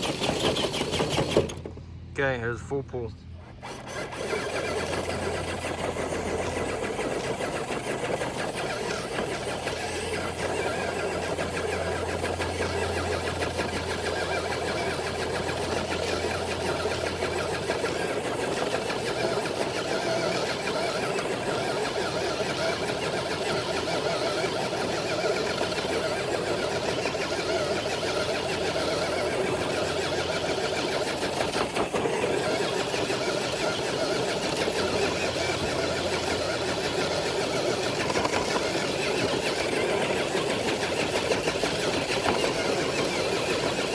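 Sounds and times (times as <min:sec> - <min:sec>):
electric motor whining: 0:00.0 - 0:01.8, 0:03.3 - 0:43.9.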